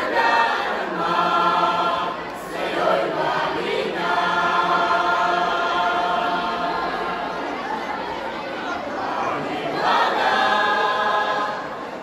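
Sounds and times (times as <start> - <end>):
choir singing in harmony: 0.0 - 12.0.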